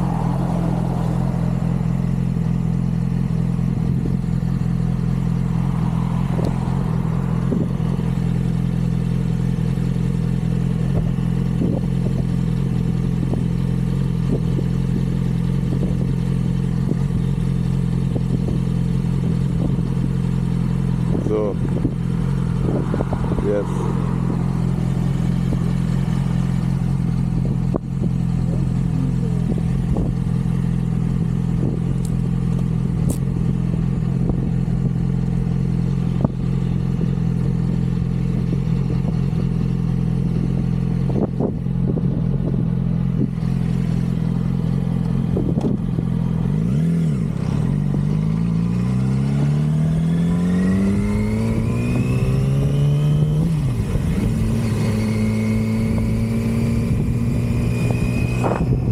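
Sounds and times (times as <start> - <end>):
motorcycle engine idling: 0.0 - 51.6
motorcycle engine revving: 0.0 - 58.9.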